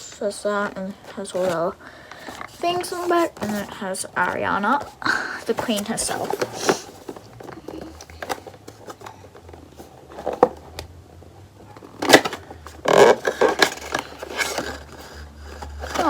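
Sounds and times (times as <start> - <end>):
packaging rustling and crackling: 0.0 - 10.9, 11.6 - 16.0.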